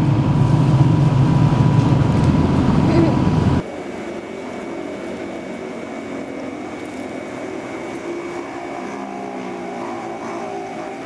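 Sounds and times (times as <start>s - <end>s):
mechanical drone: 0.0s - 11.0s.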